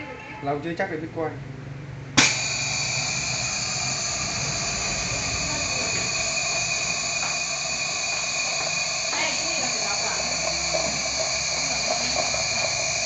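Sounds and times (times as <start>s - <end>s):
gas probe hissing: 2.2s - 13.0s.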